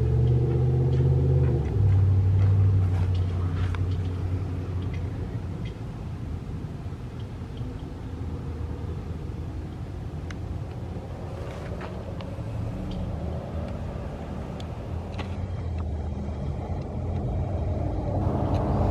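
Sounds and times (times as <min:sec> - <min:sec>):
motor vehicle rumble: 0:00.0 - 0:18.9.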